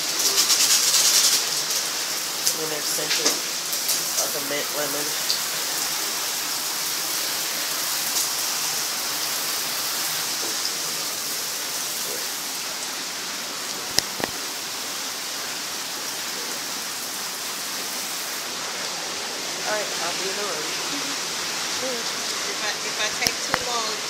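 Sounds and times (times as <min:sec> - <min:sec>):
shower spraying water: 0:00.0 - 0:24.0.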